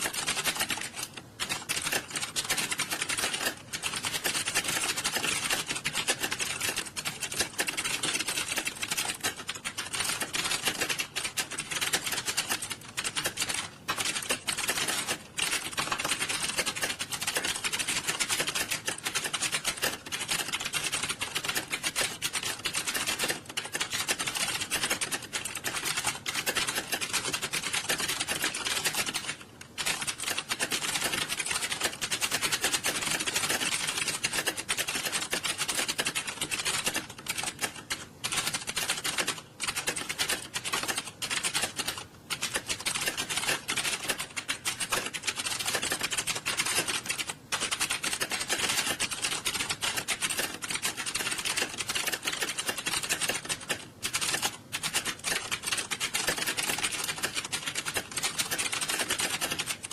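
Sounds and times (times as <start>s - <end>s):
many keyboards typing: 0.0s - 59.9s.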